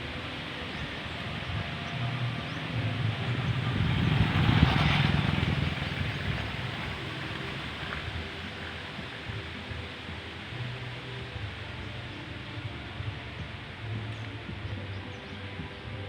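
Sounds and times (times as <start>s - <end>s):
wind buffeting microphone: 0.0s - 16.0s
wind gusting in trees: 0.0s - 16.0s.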